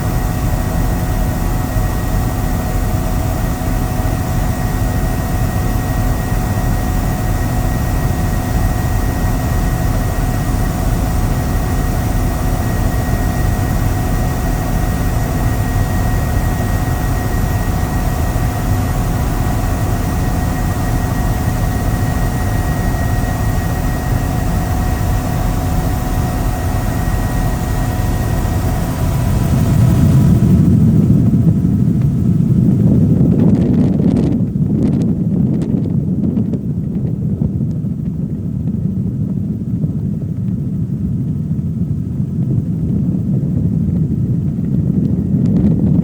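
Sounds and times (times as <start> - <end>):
faint steady whines: 0.0 - 46.0
helicopter engine and rotor drone: 0.0 - 46.0.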